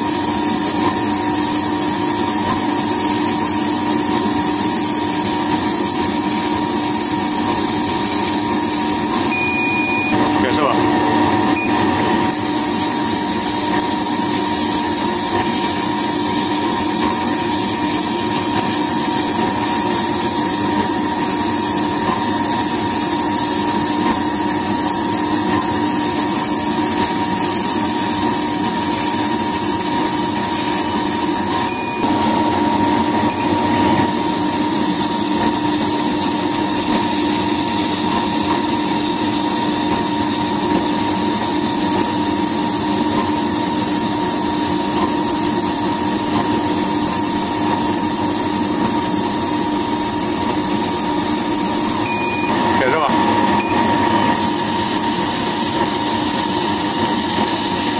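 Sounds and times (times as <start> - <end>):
laser cutter humming and hissing: 0.0 - 57.9.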